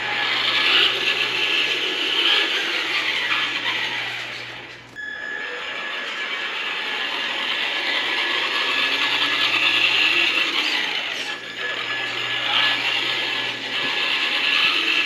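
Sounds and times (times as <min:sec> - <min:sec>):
toy car motor whining: 0:00.0 - 0:15.0.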